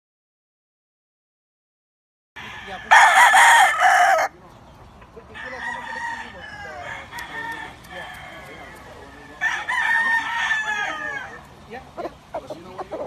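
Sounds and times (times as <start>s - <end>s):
roosters crowing: 2.4s - 13.0s.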